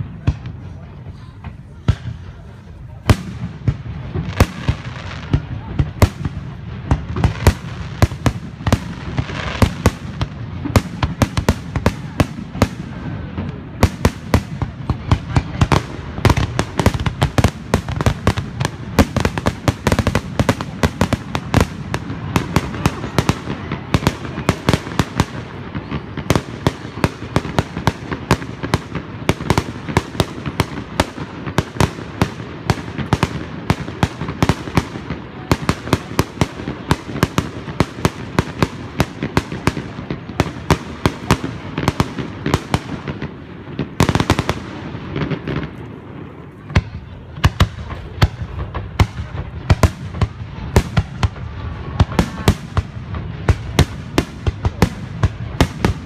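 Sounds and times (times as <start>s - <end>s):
fireworks bangs and cracks: 0.0s - 56.0s.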